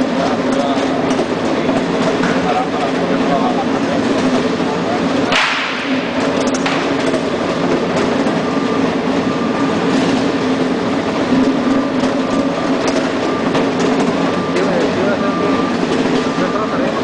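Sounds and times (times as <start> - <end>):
roller conveyor rumble: 0.0 - 17.0.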